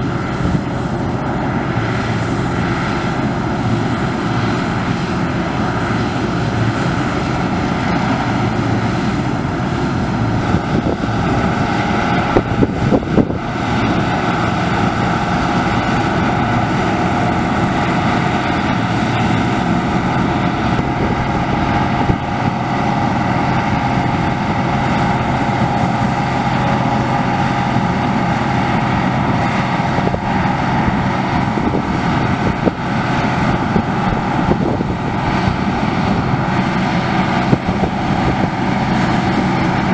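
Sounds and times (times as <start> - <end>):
combine harvester drone: 0.0 - 39.9
steady high whine: 0.0 - 39.9.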